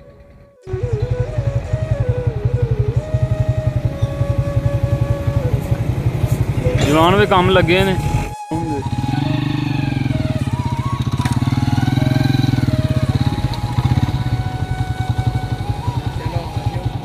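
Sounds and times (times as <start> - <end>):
motorcycle engine idling: 0.0 - 7.8, 8.5 - 17.0.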